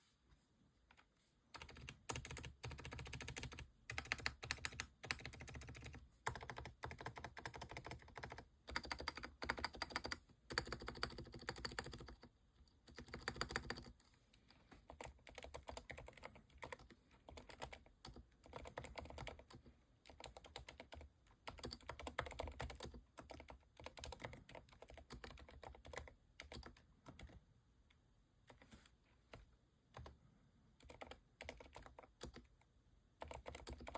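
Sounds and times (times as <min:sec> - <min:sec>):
typing on mechanical keyboard: 0:01.5 - 0:14.0, 0:14.9 - 0:27.4, 0:30.8 - 0:33.9.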